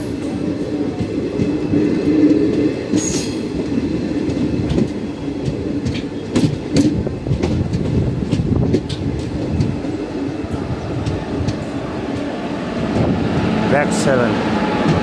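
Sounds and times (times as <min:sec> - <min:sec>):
wheels clicking over rail joints: 0:00.0 - 0:13.2
train rumbling on rails: 0:00.0 - 0:15.0.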